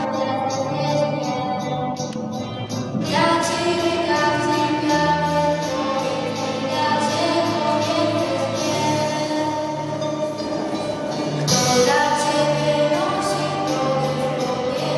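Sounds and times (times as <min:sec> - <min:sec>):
girl singing into a microphone: 0:00.0 - 0:10.2, 0:11.5 - 0:14.9
backing music: 0:00.0 - 0:14.9.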